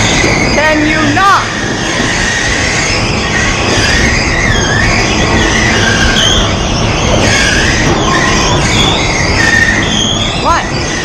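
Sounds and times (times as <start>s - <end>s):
bumper cars rumbling: 0.0s - 11.0s
high whining tones: 0.0s - 11.0s.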